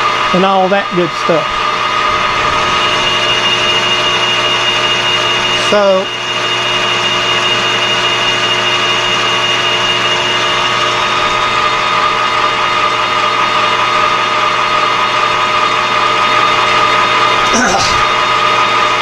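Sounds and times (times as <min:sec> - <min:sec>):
metal lathe whining: 0:00.0 - 0:19.0.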